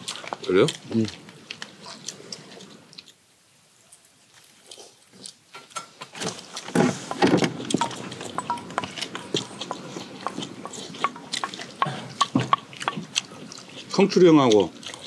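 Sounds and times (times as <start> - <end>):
eating and slurping: 0.0 - 3.2, 3.8 - 15.0.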